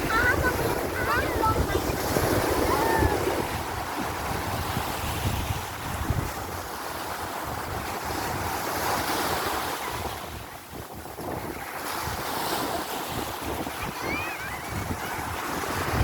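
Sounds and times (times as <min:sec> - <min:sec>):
sea waves breaking on beach: 0:00.0 - 0:16.0
wind buffeting microphone: 0:00.0 - 0:16.0.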